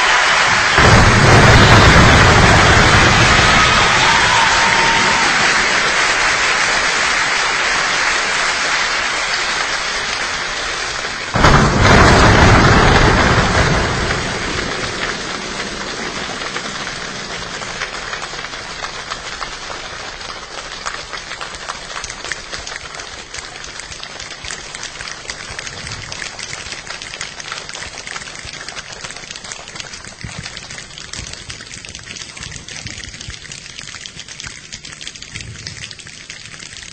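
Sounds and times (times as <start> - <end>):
body percussion rain patter: 0.0 - 36.9.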